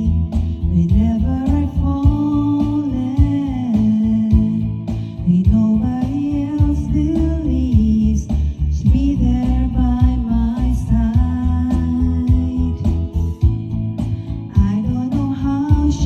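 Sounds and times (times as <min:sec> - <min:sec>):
song with bass beat: 0:00.0 - 0:16.0.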